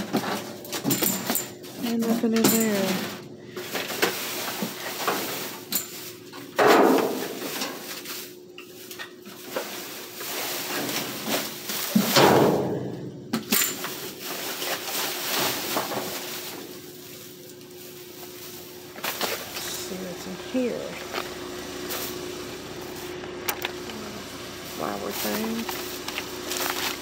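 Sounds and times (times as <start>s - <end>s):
plastic bags crinkling and rustling: 0.0s - 12.5s, 13.4s - 27.0s.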